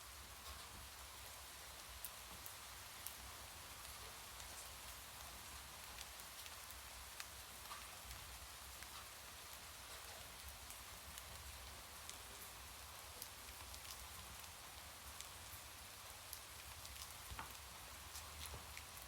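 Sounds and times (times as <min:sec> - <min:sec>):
raindrops ticking on surface: 0:00.1 - 0:19.0.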